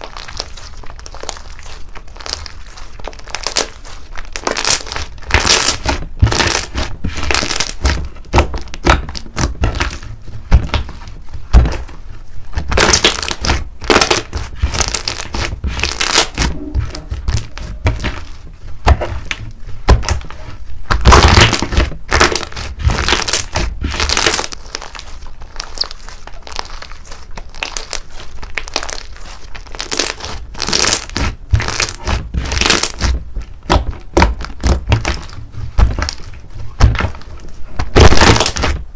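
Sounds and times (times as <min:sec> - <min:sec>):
slime squeezed with sticky pops: 0:00.0 - 0:38.9.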